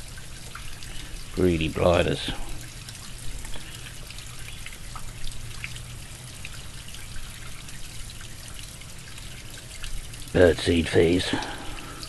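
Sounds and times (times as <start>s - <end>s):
low steady hum: 0.0s - 12.0s
small drips: 0.0s - 12.0s
water trickling: 0.0s - 12.0s.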